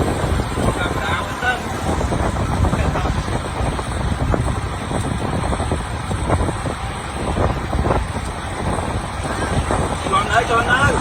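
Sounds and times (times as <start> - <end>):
street traffic: 0.0 - 11.0
wind rumbling on microphone: 0.0 - 11.0.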